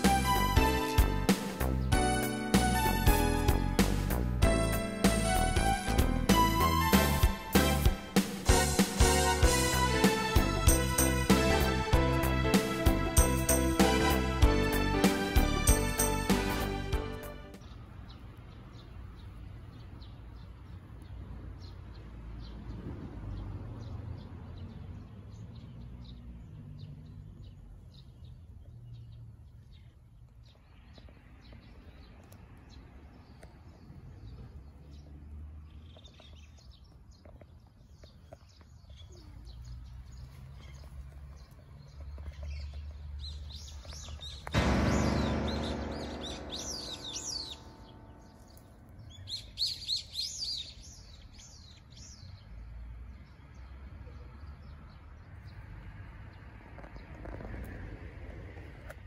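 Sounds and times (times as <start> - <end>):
wild birds chirping: 4.6 - 55.7.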